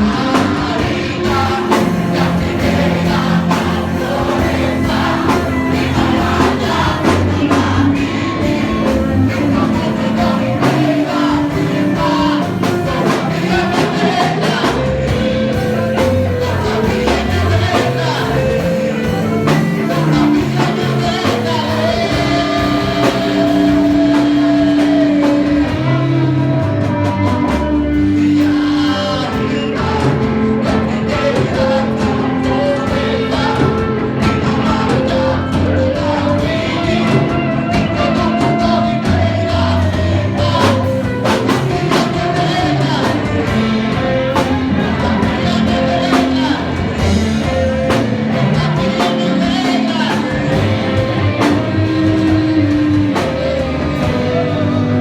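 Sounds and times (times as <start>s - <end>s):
bass guitar: 0.0s - 55.0s
drum kit: 0.0s - 55.0s
electric guitar: 0.0s - 55.0s
person singing long notes: 0.0s - 55.0s.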